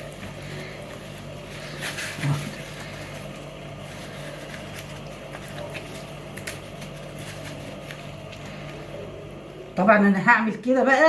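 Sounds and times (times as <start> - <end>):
paper tissue rustling: 0.0 - 9.4
steady low hum: 0.0 - 11.0.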